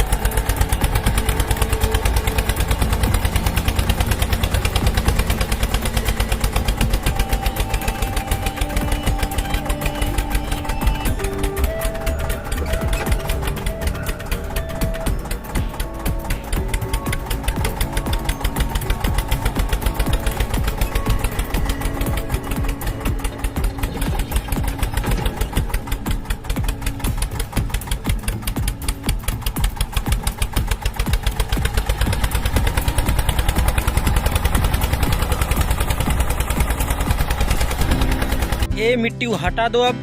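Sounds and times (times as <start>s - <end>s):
tractor engine chugging: 0.0s - 39.5s.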